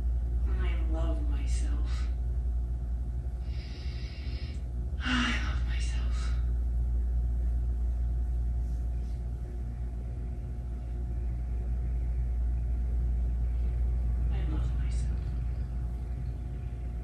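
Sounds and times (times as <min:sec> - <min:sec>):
faint steady hum: 0:00.0 - 0:17.0
low room rumble: 0:00.0 - 0:17.0.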